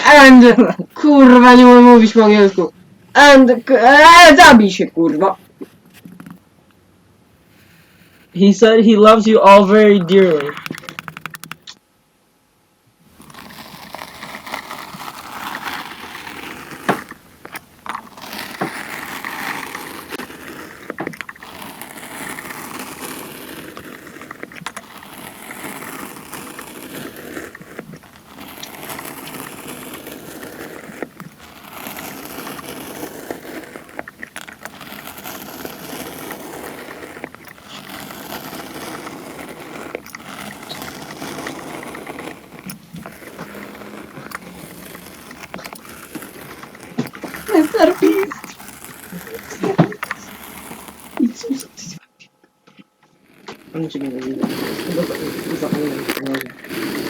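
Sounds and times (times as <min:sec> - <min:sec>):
sand being cut and squished: 0:00.0 - 0:05.7, 0:07.4 - 0:11.7, 0:13.0 - 0:57.0.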